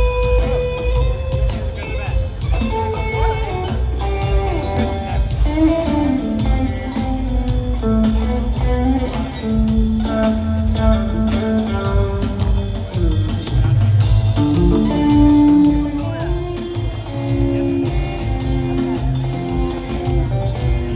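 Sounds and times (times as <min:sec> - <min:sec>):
bass guitar: 0:00.0 - 0:20.9
drums: 0:00.0 - 0:20.9
electric guitar with bent notes: 0:00.0 - 0:20.9.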